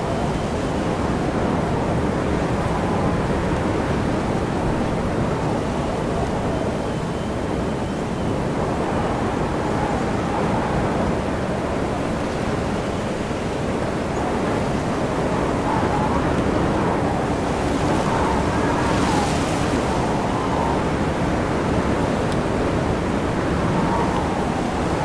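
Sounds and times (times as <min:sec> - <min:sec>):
wind rushing and whistling: 0:00.0 - 0:25.0.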